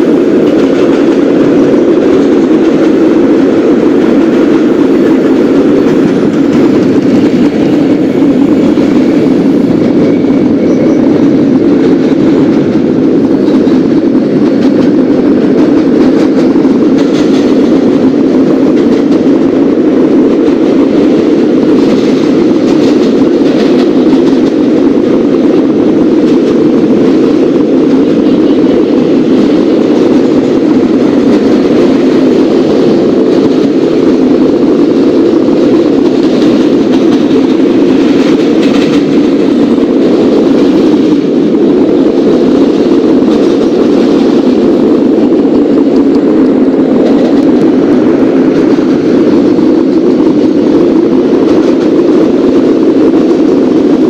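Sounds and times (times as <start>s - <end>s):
subway train rumbling: 0.0s - 54.0s.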